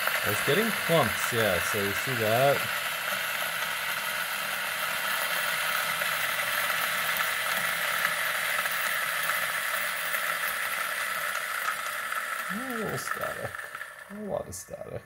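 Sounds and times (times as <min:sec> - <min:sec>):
coffee grinder whirring: 0:00.0 - 0:15.0.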